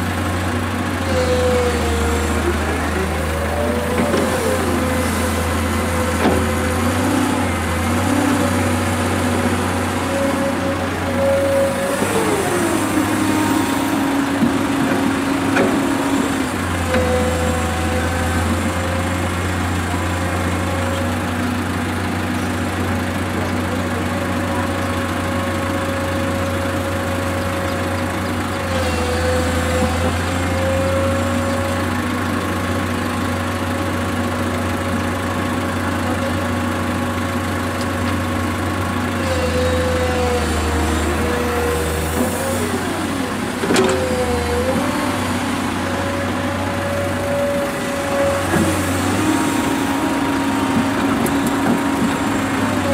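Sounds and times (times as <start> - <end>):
excavator engine and hydraulics: 0.0 - 52.9.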